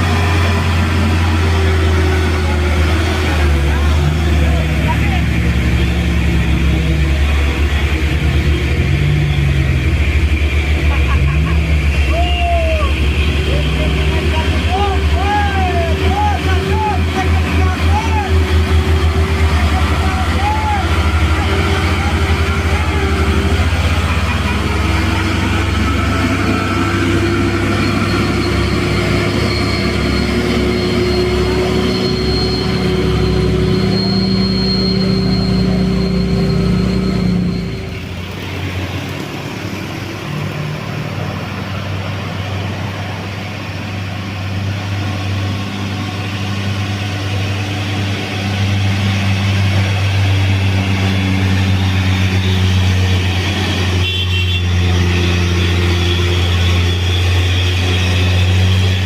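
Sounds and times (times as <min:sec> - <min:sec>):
truck diesel engines under load: 0:00.0 - 0:59.0.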